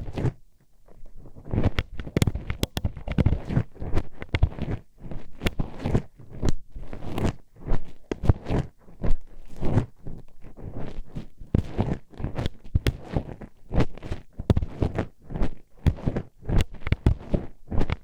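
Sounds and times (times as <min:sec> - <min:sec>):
scratchy rubbing: 0:00.0 - 0:18.0.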